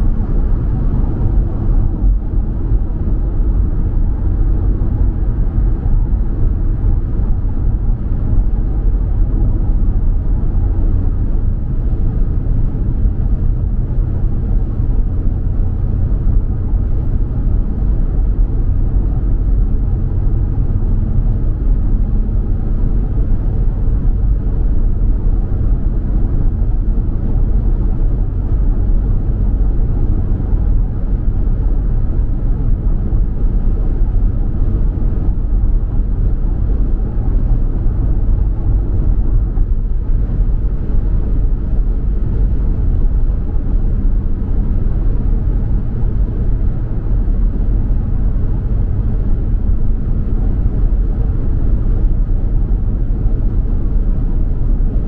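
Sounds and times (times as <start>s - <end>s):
car engine rumble: 0.0s - 55.0s
road and tyre noise: 0.0s - 55.0s.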